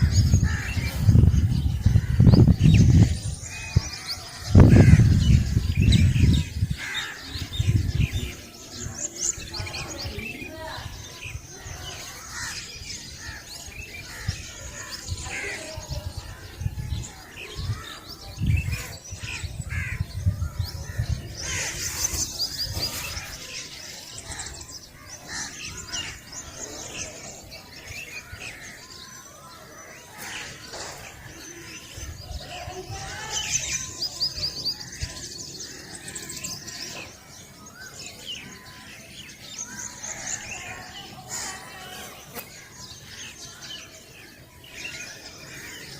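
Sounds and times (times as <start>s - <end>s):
birds chirping and trilling: 0.0s - 45.9s.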